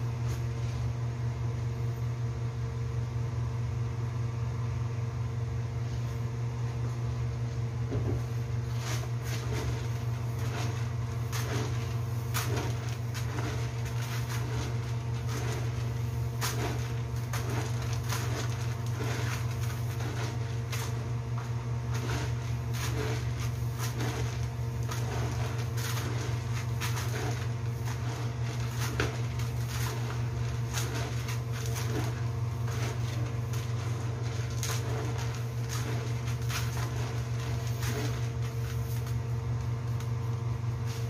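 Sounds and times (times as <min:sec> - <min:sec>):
steady low hum: 0:00.0 - 0:41.0
rice grains rustling in plastic basin: 0:08.1 - 0:41.0.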